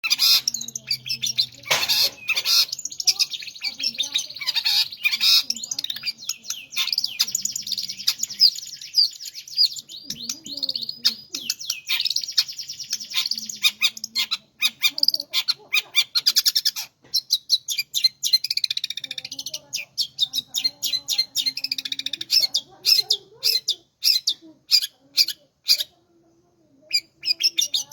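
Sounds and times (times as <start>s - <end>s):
songbird trilling and whistling: 0.0s - 25.9s, 26.9s - 27.9s.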